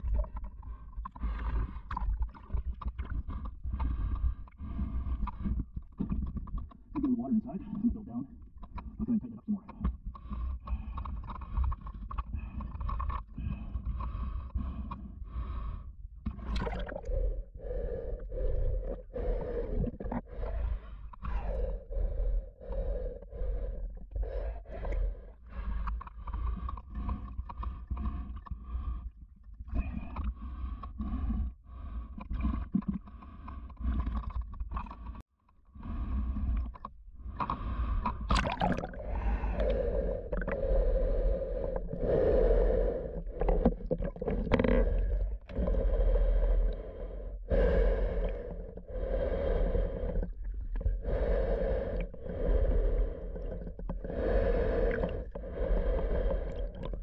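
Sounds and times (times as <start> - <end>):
water sloshing and gurgling: 0.0 - 57.0
heavy breathing through snorkel: 10.1 - 57.0.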